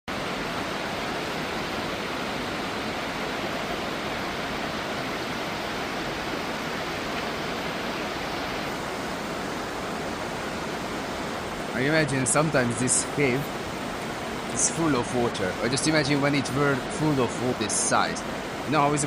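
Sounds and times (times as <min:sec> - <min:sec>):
rushing water: 0:00.1 - 0:19.0.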